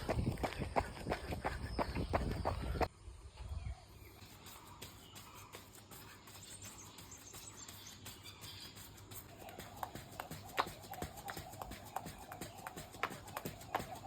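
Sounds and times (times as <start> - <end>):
footsteps walking outdoors: 0.0 - 2.9, 4.2 - 14.0
bird chirps: 0.4 - 14.0.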